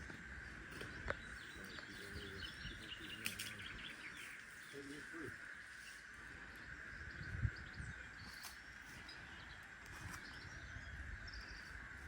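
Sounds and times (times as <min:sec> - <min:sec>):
bird chirps: 0:00.5 - 0:12.0.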